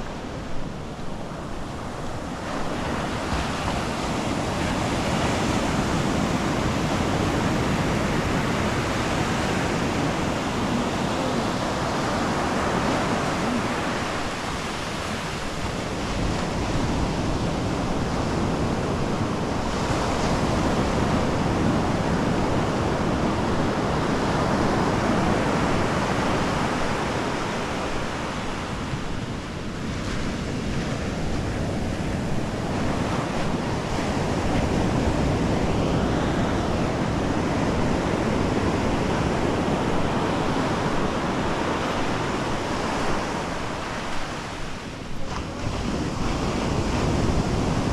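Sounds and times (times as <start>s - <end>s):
ocean surf breaking: 0.0s - 47.9s
wind on microphone: 0.0s - 47.9s.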